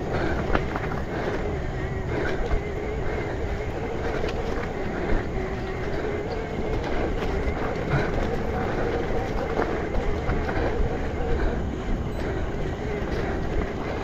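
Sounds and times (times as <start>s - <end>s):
bike knocking over bumps: 0.0s - 14.0s
electric motor whine: 0.0s - 14.0s
tyre rumble: 0.0s - 14.0s.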